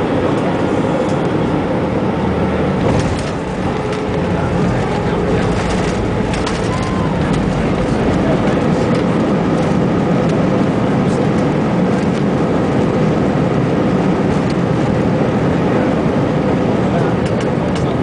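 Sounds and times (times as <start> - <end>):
steady hum: 0.0 - 17.1
roar of jet engines and airflow: 0.0 - 18.0.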